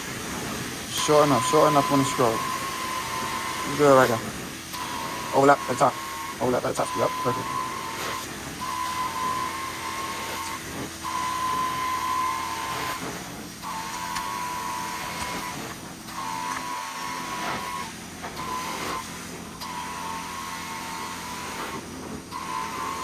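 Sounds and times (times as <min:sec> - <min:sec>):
vacuum droning: 0:00.0 - 0:23.0
whistling suction tone: 0:00.9 - 0:23.0.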